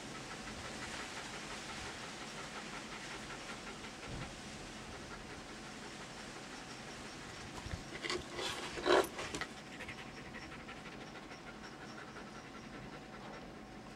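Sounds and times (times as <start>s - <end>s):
dog panting: 0.0s - 13.9s.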